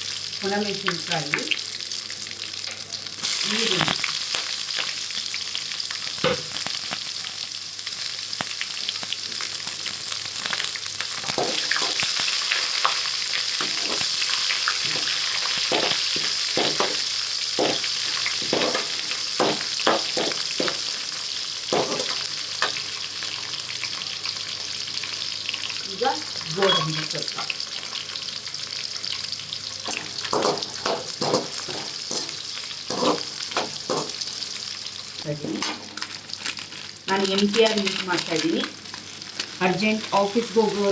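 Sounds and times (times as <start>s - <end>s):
onion sizzling in hot oil: 0.0s - 40.9s.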